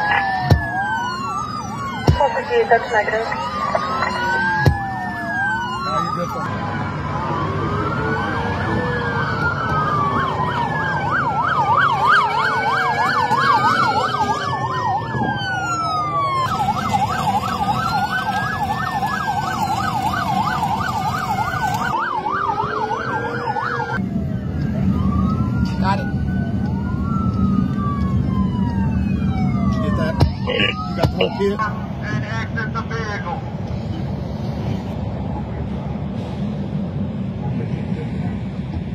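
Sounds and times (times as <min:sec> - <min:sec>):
police siren yelps: 0:00.0 - 0:33.3
police sirens wailing: 0:00.0 - 0:36.1
traffic rumble: 0:00.0 - 0:38.9.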